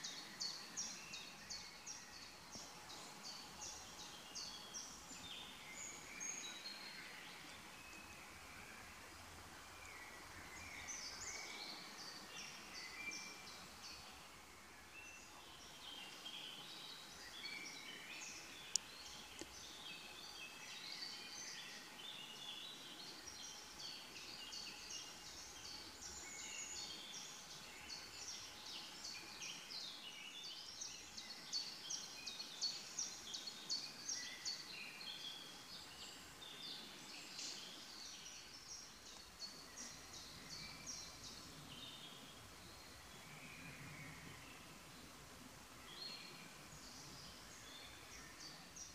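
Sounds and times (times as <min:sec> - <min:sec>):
faint steady hiss: 0:00.0 - 0:48.9
small birds chirping: 0:00.0 - 0:48.9.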